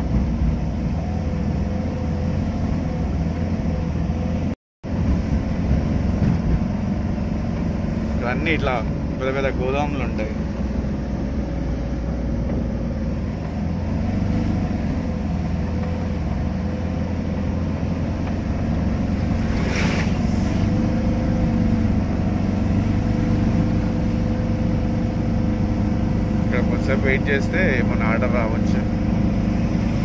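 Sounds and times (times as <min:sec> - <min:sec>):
car engine hum: 0:00.0 - 0:30.0
truck passing: 0:00.0 - 0:30.0.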